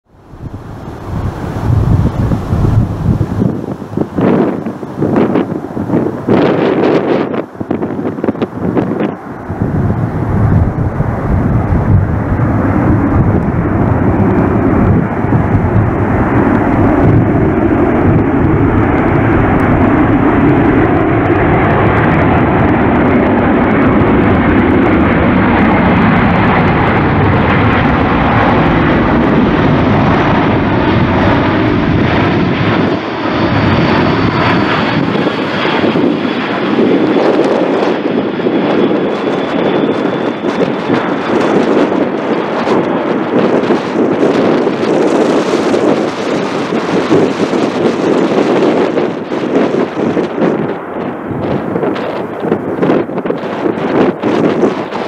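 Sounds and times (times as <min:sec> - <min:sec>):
loud jet engine rush: 0:00.0 - 0:55.0.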